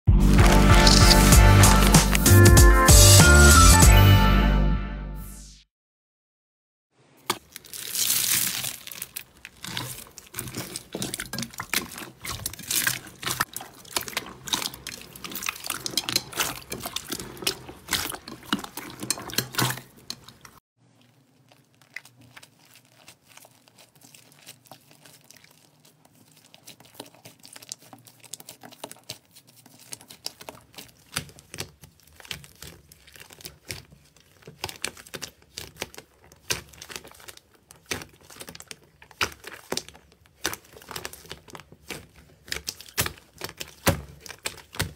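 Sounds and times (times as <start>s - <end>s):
foam-bead slime crackling: 0.2s - 2.5s, 7.1s - 44.9s
slime squishing and clicking: 7.3s - 20.6s, 21.5s - 44.9s.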